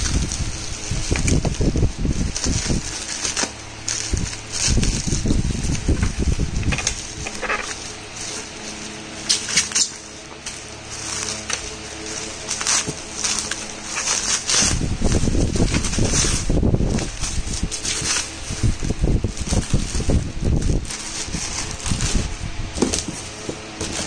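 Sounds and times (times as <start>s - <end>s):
bubble wrap crinkling: 0.0s - 24.0s
handling bumps: 1.1s - 24.0s.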